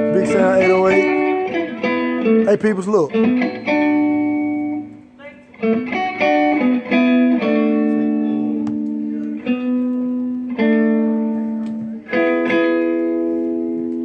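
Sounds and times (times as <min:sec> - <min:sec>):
guitar chords ringing: 0:00.0 - 0:14.0.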